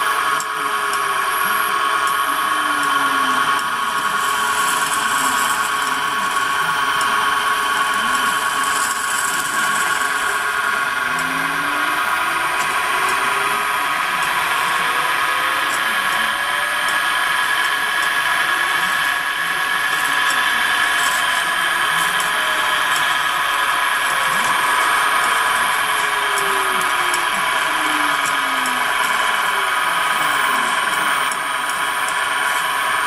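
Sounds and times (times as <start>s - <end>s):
drive motor tone: 0.0s - 33.0s
spindle motor whine: 0.0s - 33.0s.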